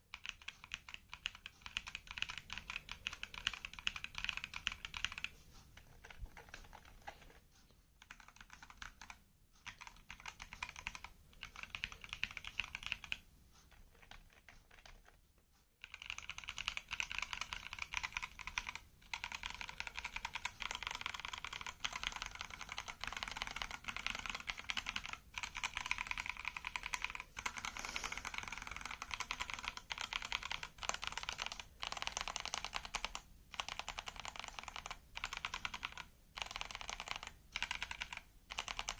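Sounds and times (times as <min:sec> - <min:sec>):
fast typing on computer keyboard: 0:00.0 - 0:07.4, 0:08.0 - 0:15.2, 0:15.8 - 0:38.9.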